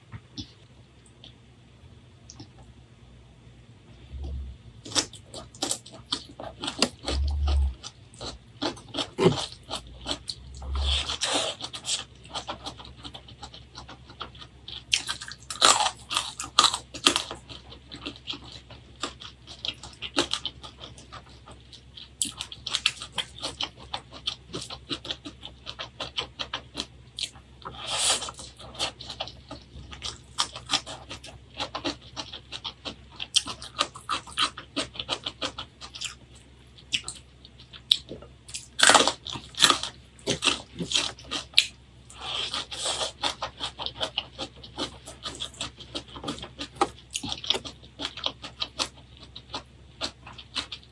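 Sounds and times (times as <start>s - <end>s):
person chewing food: 4.0s - 50.9s.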